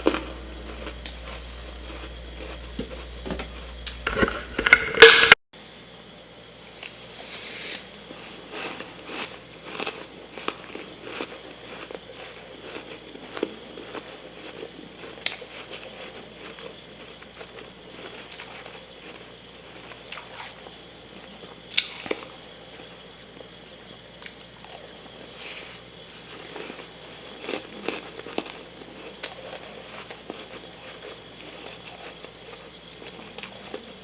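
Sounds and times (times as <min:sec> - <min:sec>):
frost being chewed: 0:00.0 - 0:04.3, 0:08.1 - 0:23.6, 0:26.2 - 0:34.0.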